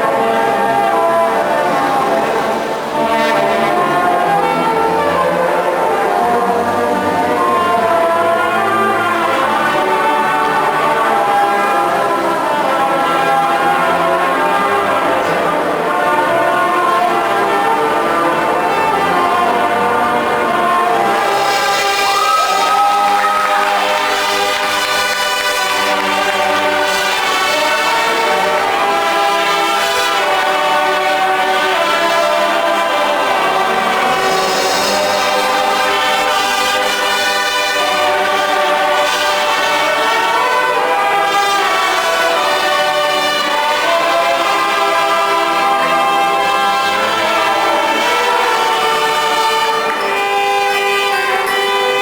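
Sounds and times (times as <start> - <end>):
brass band playing held chords: 0.0 - 52.0.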